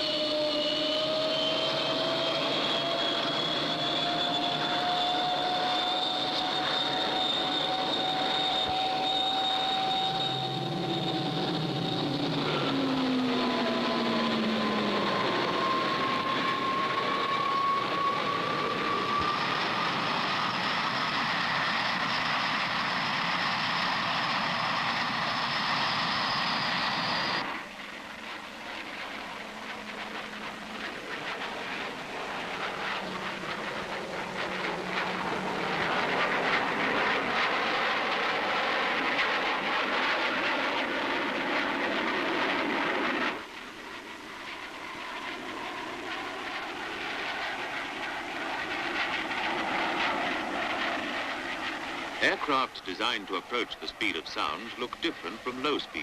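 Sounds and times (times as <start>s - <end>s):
jet aircraft passing: 0.0s - 56.0s.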